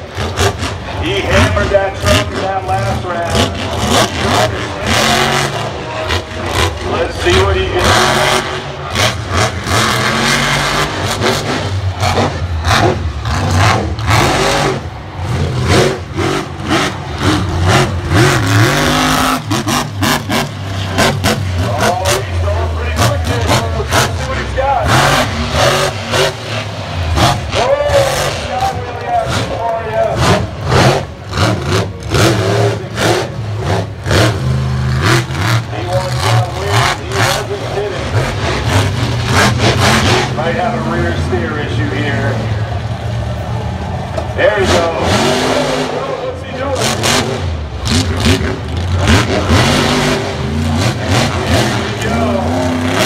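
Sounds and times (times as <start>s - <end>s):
monster truck engine revving: 0.0s - 53.0s.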